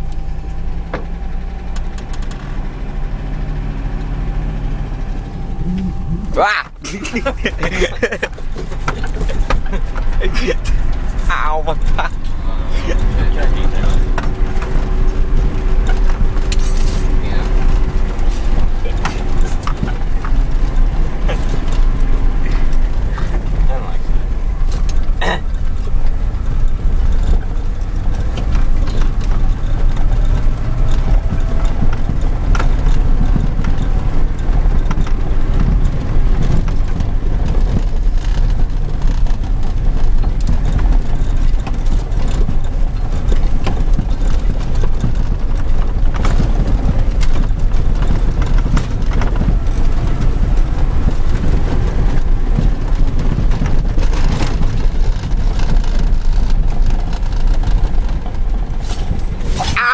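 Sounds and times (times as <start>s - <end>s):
vehicle body knocking and rattling: 0.0s - 59.9s
vehicle engine rumbling: 0.0s - 59.9s.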